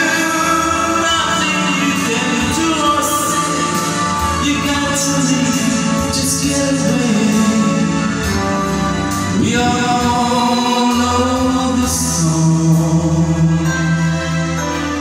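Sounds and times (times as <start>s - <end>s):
man singing slow song: 0.0s - 14.7s
instrumental backing music: 0.0s - 15.0s.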